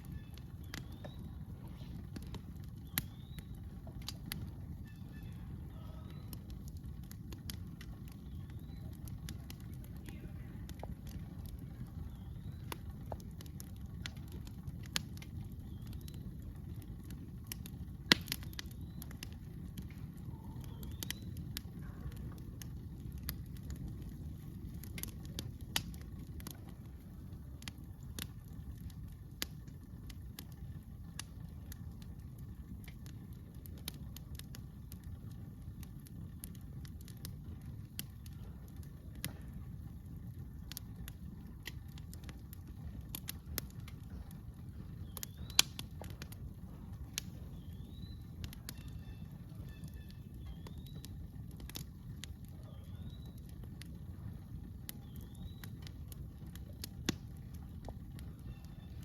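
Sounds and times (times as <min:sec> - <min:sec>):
campfire crackling: 0:00.0 - 0:59.0
sharp fire pops: 0:00.0 - 0:59.0
steady low rumble: 0:00.0 - 0:59.0.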